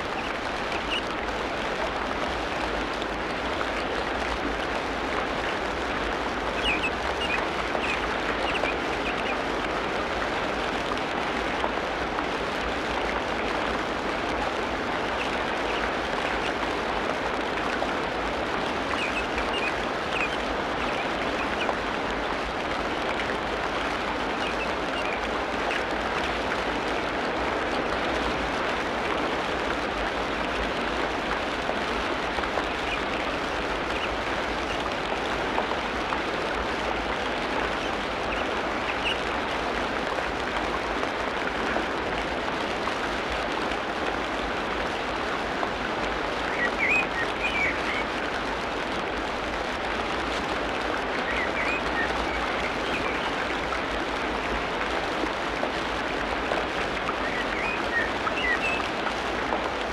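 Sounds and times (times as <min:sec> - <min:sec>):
rain on foliage: 0:00.0 - 0:59.9.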